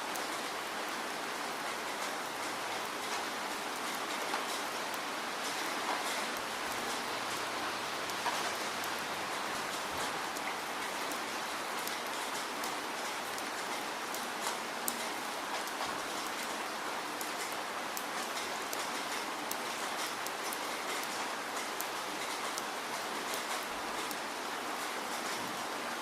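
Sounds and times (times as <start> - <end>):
raindrops ticking on surface: 0.0 - 26.0
steady rainfall: 0.0 - 26.0.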